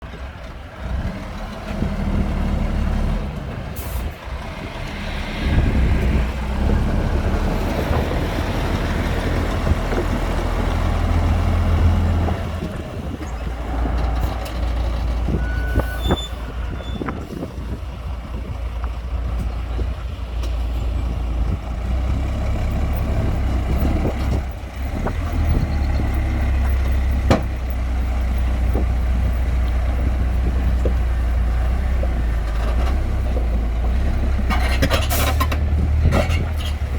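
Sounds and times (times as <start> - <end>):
deep diesel engine drone: 0.0 - 36.9.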